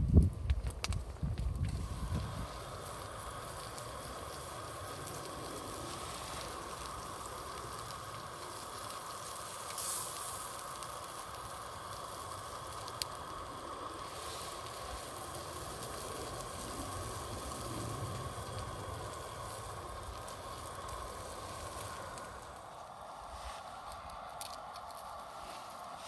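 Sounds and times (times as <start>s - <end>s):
fire hissing and crackling: 0.0s - 26.0s.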